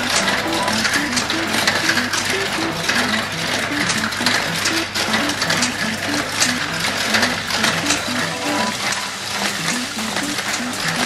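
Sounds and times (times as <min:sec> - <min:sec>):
simple background music melody: 0:00.0 - 0:11.0.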